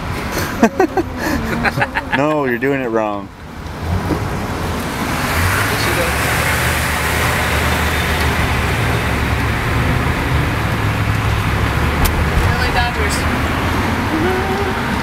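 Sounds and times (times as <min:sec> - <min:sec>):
engine and tyre drone: 0:00.0 - 0:15.0.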